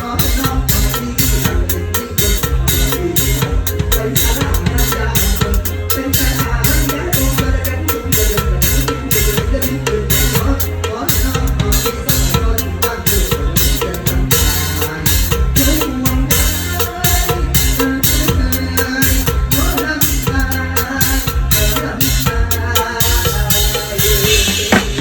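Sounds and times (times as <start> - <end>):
kick and snare drum beat: 0.0 - 25.0
live band playing: 0.0 - 25.0.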